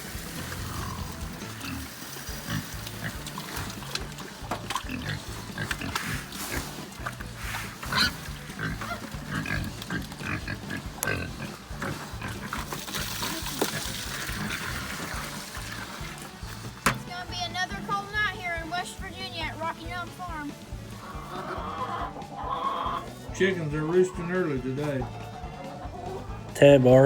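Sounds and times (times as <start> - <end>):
hogs grunting and squealing: 0.0 - 16.8, 17.6 - 27.0.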